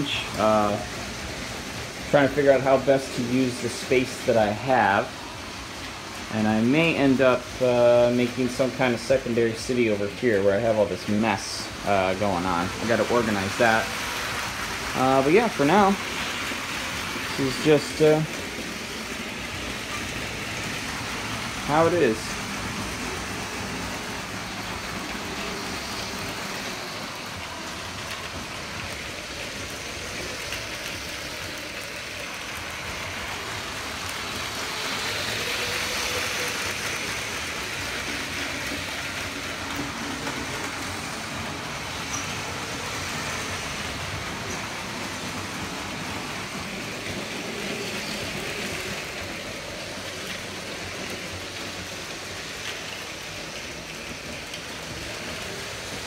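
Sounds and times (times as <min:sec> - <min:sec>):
toy train wheels clattering: 0:11.0 - 0:56.0.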